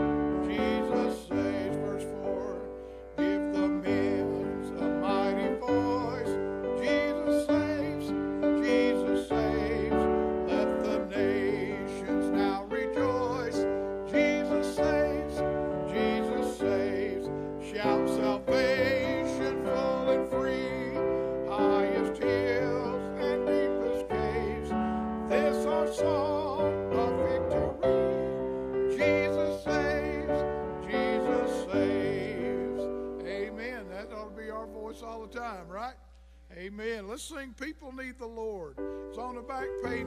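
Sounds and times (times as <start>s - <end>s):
digital piano accompaniment: 0.0s - 35.7s, 38.7s - 40.0s
person singing a hymn: 0.0s - 40.0s.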